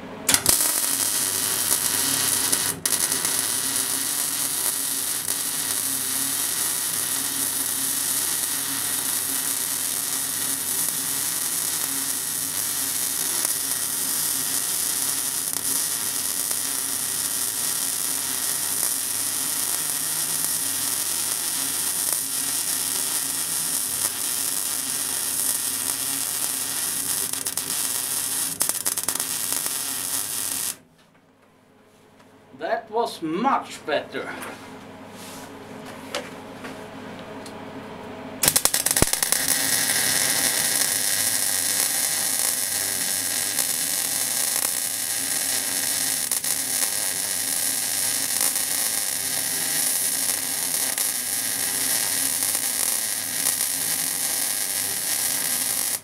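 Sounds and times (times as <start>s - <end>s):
arc welding crackling hiss: 0.3s - 30.8s, 38.4s - 56.0s.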